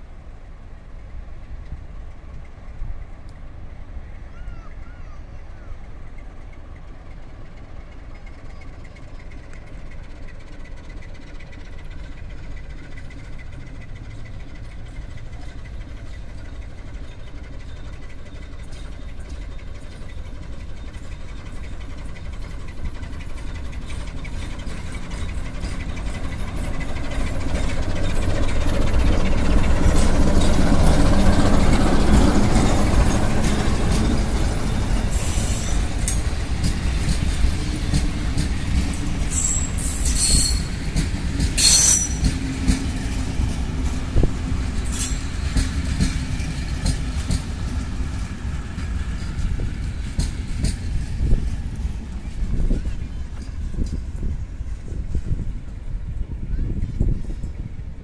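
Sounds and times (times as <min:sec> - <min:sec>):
locomotive engine rumble: 0:00.0 - 0:58.0
wheels clicking on rails: 0:05.7 - 0:58.0.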